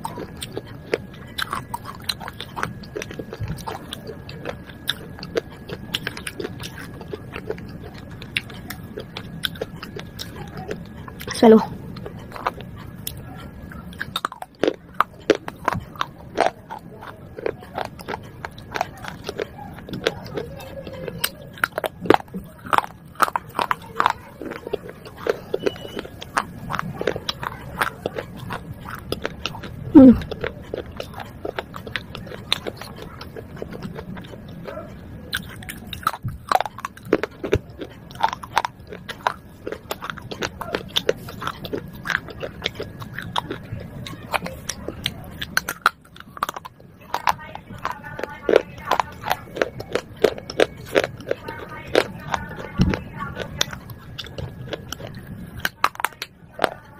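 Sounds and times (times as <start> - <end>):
biting and chewing pottery shards: 0.0 - 56.9.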